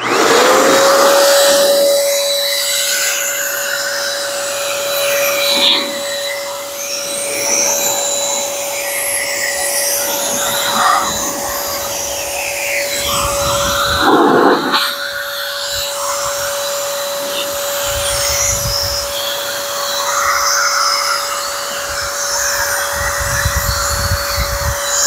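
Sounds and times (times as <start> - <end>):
car dryer motor whine: 0.0 - 25.0.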